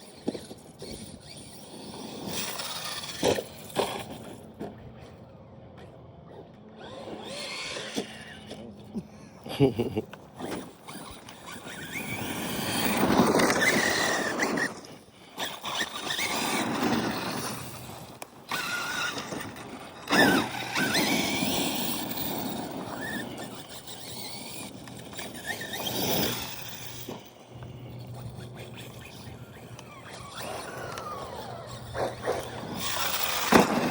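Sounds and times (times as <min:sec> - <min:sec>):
rc car motor whine: 0:00.0 - 0:05.2, 0:06.3 - 0:09.4, 0:10.0 - 0:33.9
tyre noise: 0:00.0 - 0:33.9.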